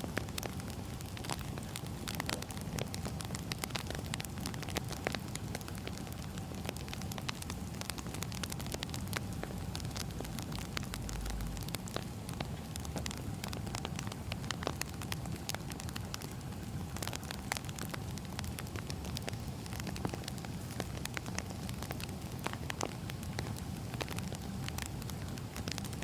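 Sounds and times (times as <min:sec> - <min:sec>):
firewood crackling and popping: 0:00.0 - 0:26.0.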